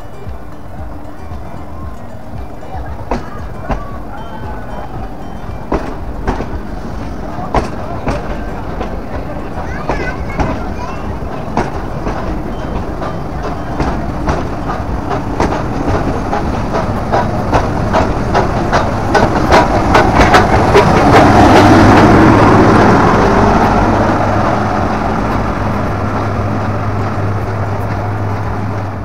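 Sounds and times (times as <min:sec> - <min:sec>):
steam locomotive rushing: 0:00.0 - 0:29.0
train wheels clicking on rail joints: 0:00.0 - 0:29.0.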